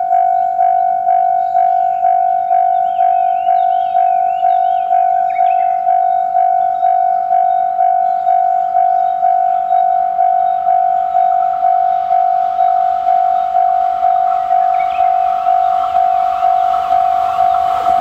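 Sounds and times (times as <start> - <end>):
approaching train: 0.0 - 18.0
level crossing warning bell ringing: 0.0 - 18.0.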